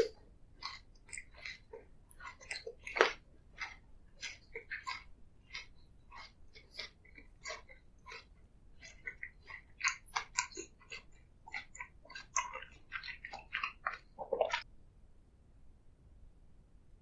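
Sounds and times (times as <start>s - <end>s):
chewing clicks and crackles: 0.0s - 14.7s.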